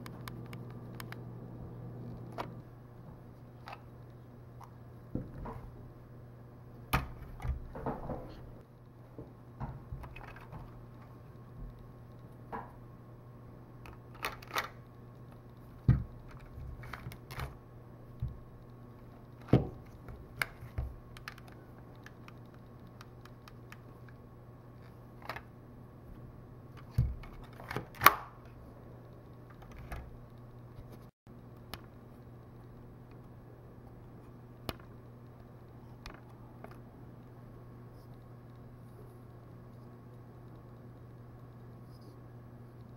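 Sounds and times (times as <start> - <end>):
faint low hum: 0.0 - 42.9.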